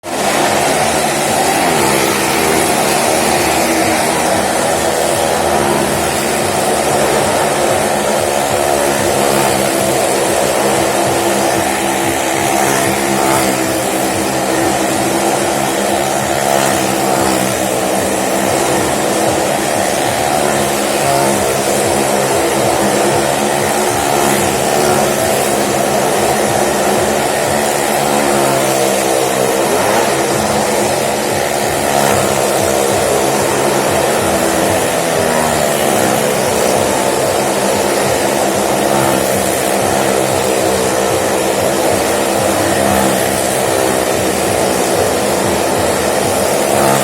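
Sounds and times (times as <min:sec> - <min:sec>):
motorcycle and car engines droning: 0:00.0 - 0:47.0.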